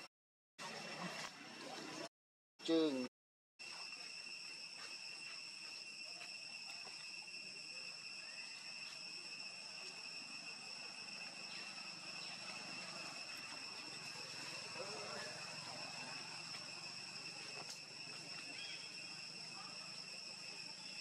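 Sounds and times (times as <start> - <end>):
insects droning: 2.6 - 21.0.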